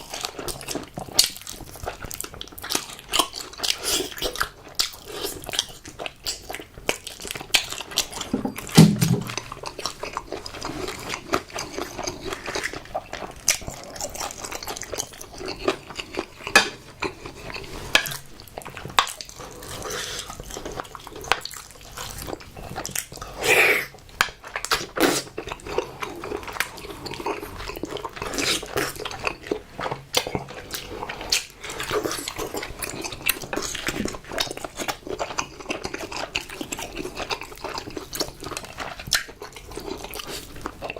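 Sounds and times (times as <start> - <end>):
biting and chewing food: 0.0 - 40.9.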